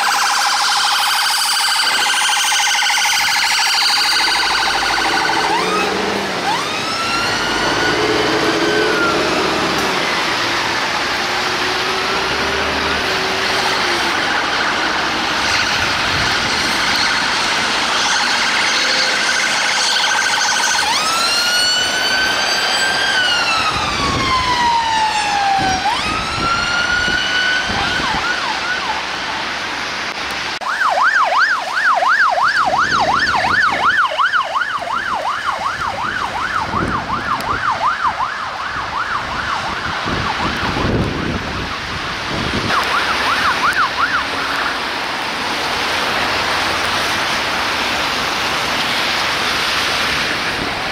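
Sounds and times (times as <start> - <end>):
emergency vehicle siren: 0.0 - 50.9
road traffic noise: 0.0 - 50.9.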